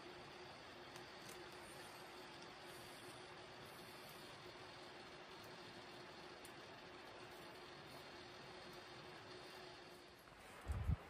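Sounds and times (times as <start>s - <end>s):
faint hum: 0.0s - 11.0s
steady hiss: 0.0s - 11.0s
knife shaving wood: 0.8s - 10.2s.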